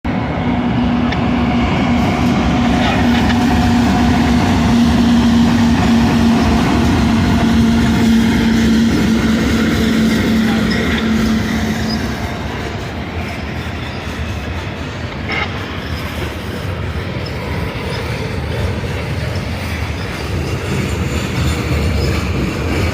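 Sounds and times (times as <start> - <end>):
freight cars rolling on rails: 0.1 - 22.9.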